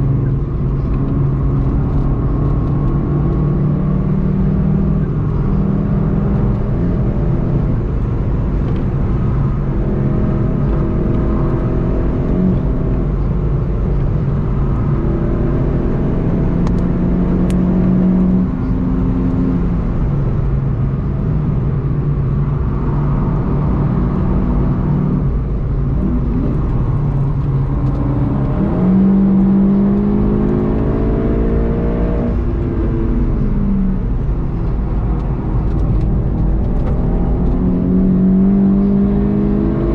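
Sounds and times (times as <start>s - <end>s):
car engine pulling hard: 0.0s - 39.9s
tyre and road rumble: 0.0s - 39.9s.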